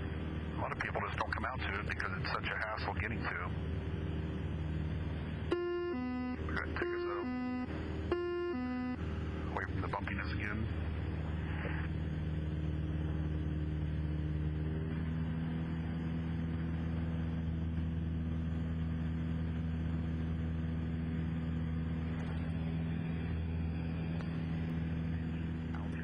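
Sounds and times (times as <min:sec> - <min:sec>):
airplane engine and propeller droning: 0:00.0 - 0:26.0.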